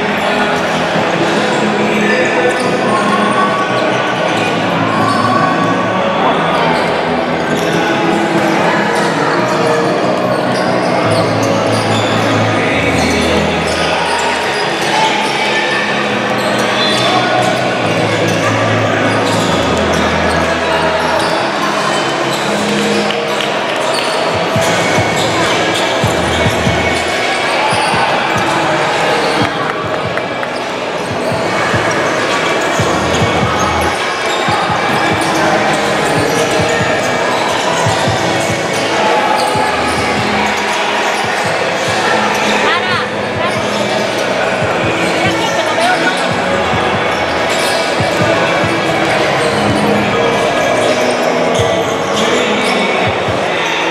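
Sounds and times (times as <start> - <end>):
voices echoing in hall: 0.0 - 53.9.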